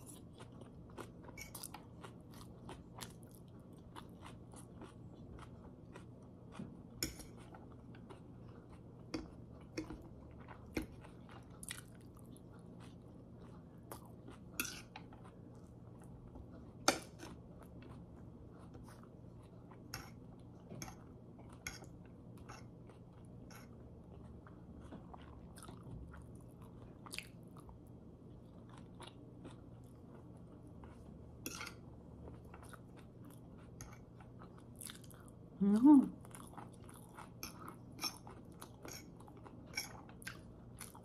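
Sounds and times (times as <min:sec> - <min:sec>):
person chewing noodles: 0:00.0 - 0:35.6, 0:36.2 - 0:41.0
faint low hum: 0:00.0 - 0:41.0.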